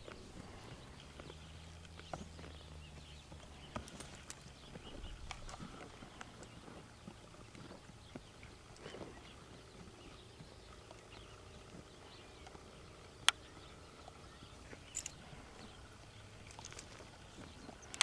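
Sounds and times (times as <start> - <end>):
horse tack rattling: 0.0 - 18.0.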